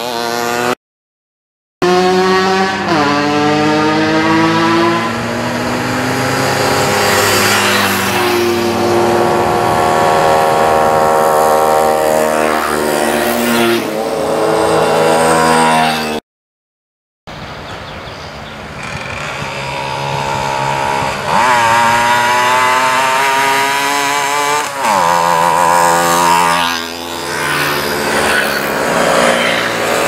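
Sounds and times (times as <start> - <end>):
moped engines passing by: 1.9 - 16.2, 18.0 - 30.0.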